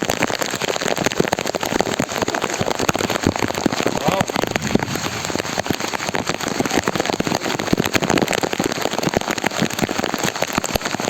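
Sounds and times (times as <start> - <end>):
heavy rain on hard surface: 0.0 - 11.0.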